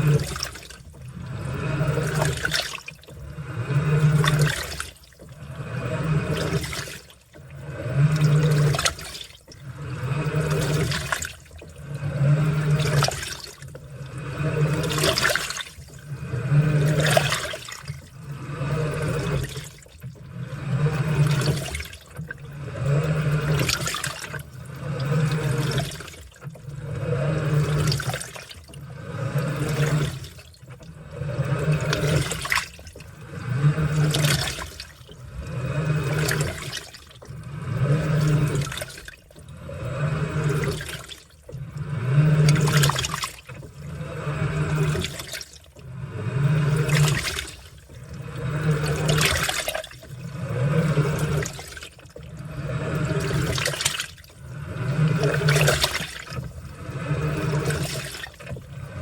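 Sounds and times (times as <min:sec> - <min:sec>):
washing machine motor hum: 0:00.0 - 0:59.0
washing machine sloshing: 0:00.0 - 0:59.0.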